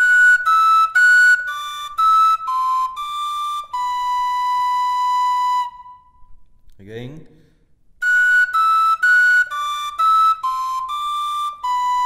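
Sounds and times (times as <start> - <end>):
tin whistle playing: 0.0 - 6.4, 8.0 - 12.0.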